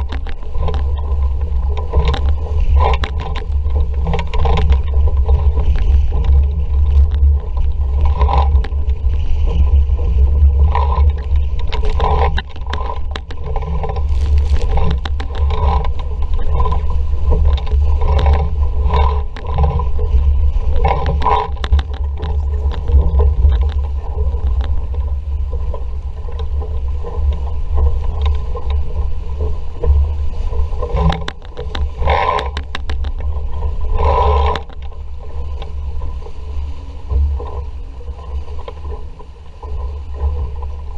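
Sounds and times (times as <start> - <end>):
water slapping against hull: 0.0 - 40.9
wind buffeting microphone: 0.0 - 40.9.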